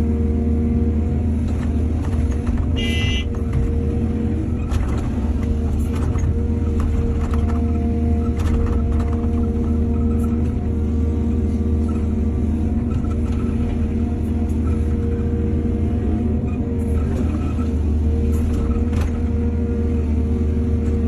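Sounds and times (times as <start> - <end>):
excavator diesel engine drone: 0.0 - 21.0.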